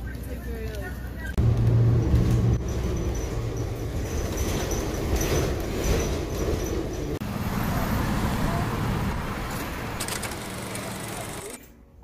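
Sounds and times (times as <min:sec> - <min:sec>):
rumble of moving vehicles: 0:00.0 - 0:12.0.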